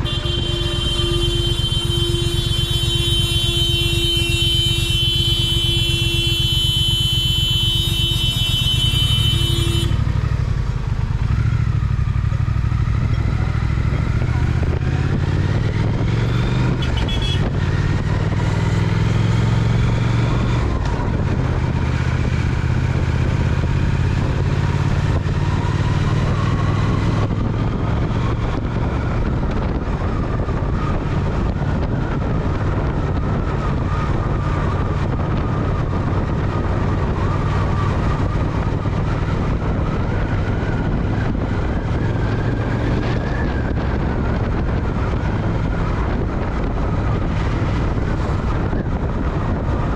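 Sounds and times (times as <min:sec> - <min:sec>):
motorcycle engine running: 0:00.0 - 0:49.9
wind noise on microphone: 0:00.0 - 0:49.9.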